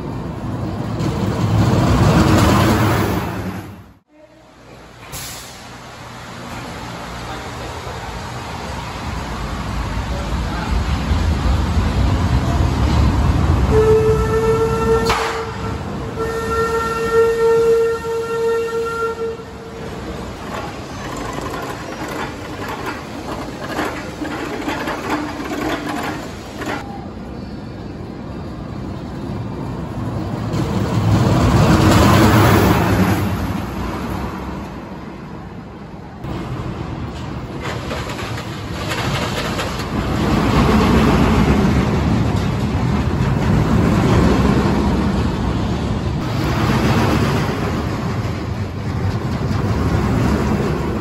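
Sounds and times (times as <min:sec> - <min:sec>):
roller coaster train rumbling: 0:00.0 - 0:51.0.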